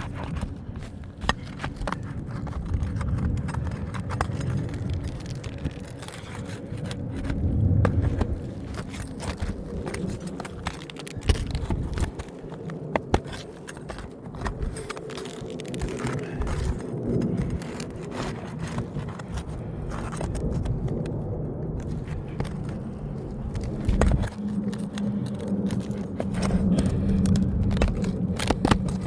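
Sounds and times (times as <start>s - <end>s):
shingles scraping: 0.0s - 29.0s.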